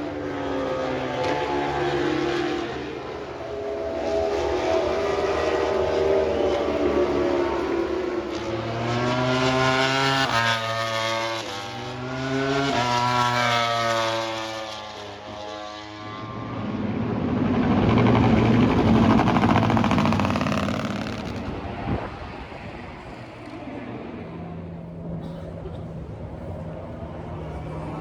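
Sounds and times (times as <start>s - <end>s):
motorcycles passing by: 0.0s - 28.0s
racing motorcycle engine accelerating: 0.0s - 28.0s.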